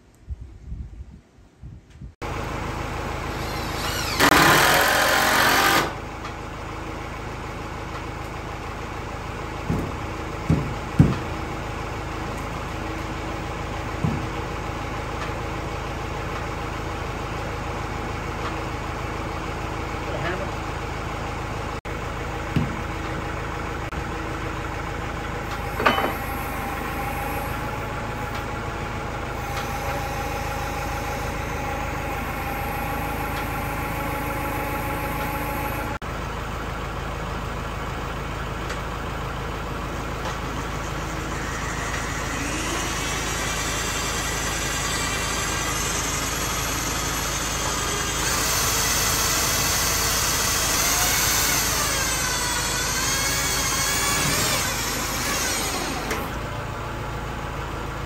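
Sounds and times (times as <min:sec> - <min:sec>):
tractor engine idling: 0:02.2 - 0:05.3, 0:05.9 - 0:58.0.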